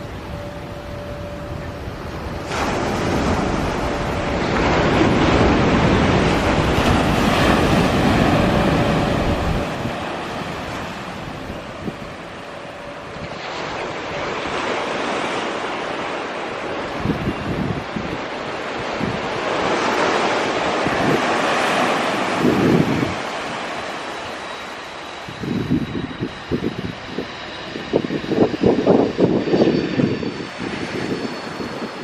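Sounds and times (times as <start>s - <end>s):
rushing wind-like noise: 0.0s - 32.0s.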